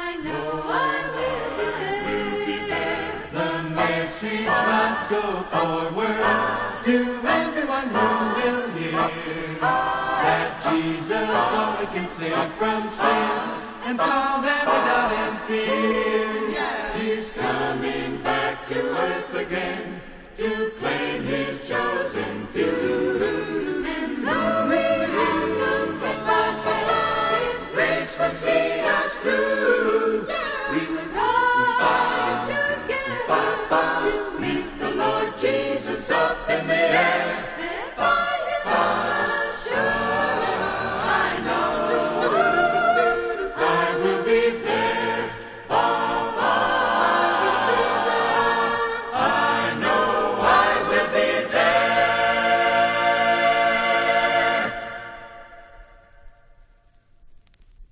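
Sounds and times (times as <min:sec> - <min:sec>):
choir singing: 0:00.0 - 0:56.1.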